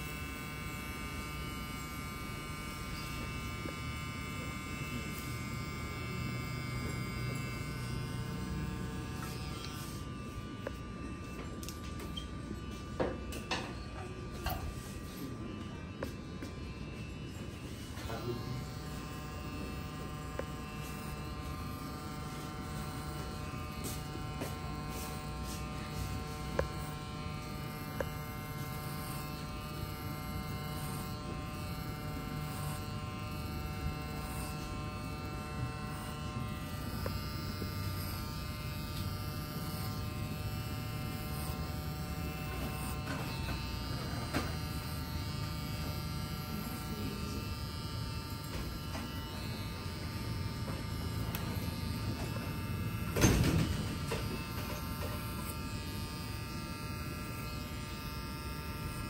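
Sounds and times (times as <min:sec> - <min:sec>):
electric hair clippers buzzing: 0:00.0 - 0:59.0.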